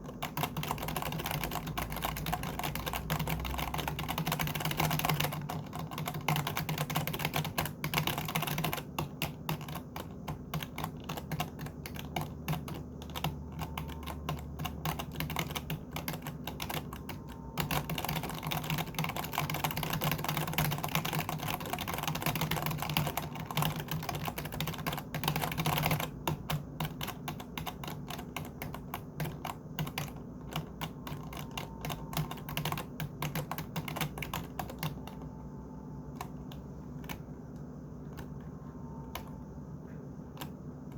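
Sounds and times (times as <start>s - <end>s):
typing on computer keyboard: 0.0s - 39.4s, 40.2s - 40.9s.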